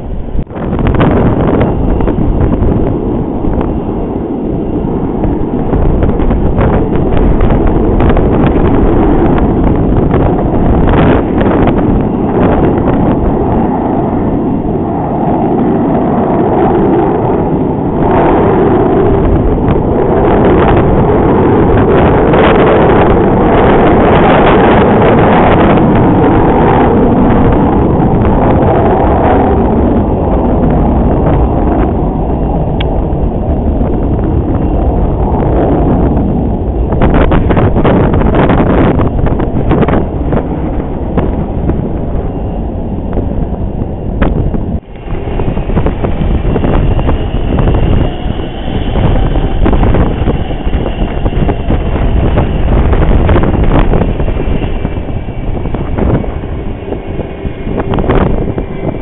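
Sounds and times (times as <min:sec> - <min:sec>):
jet engines rumbling: 0:00.0 - 0:59.0
wind buffeting microphone: 0:00.0 - 0:59.0.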